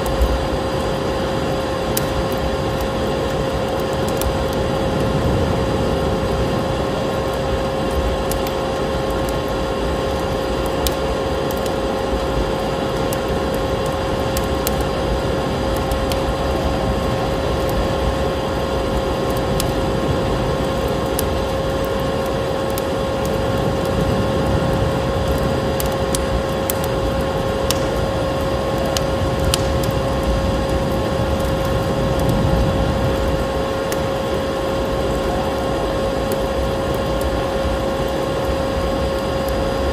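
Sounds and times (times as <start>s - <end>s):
motor whine with rushing noise: 0.0s - 39.9s
storm wind: 0.0s - 39.9s
wood fire crackling and popping: 0.0s - 39.9s.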